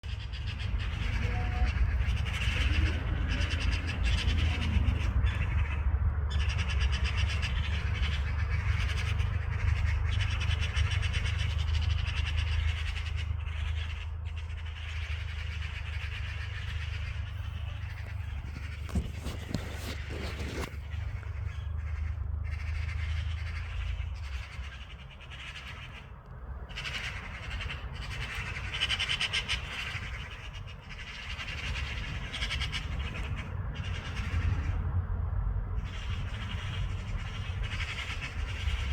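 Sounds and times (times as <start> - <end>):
magpies chattering: 0.0 - 35.0, 35.7 - 38.9
steady low rumble: 0.0 - 38.9.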